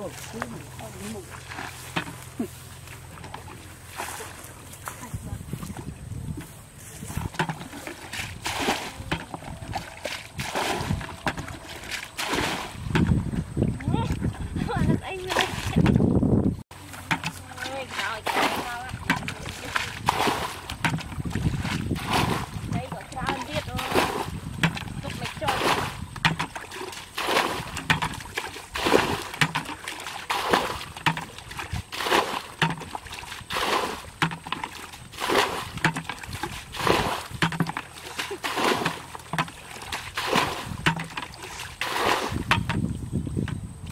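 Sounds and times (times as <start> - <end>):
water splashing: 0.0 - 16.1, 16.7 - 43.9
bucket scooping water: 0.0 - 43.9.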